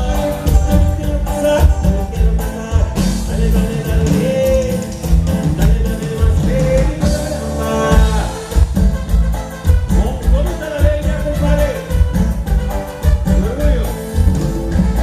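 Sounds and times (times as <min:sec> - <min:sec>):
live cumbia band music: 0:00.0 - 0:15.0.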